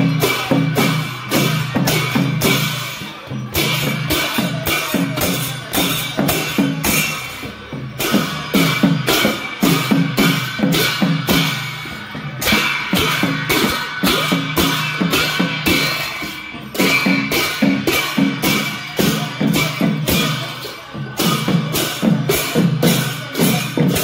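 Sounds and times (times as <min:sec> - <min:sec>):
barrel drum beating: 0:00.0 - 0:24.0
hand cymbals clashing: 0:00.0 - 0:24.0.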